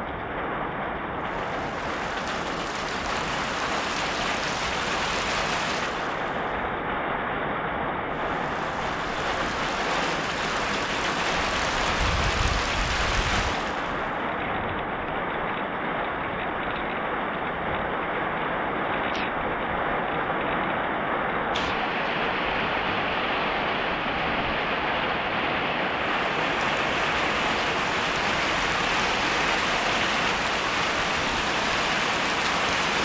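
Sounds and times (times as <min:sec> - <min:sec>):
heavy rain falling: 0:00.3 - 0:17.2, 0:21.6 - 0:33.0.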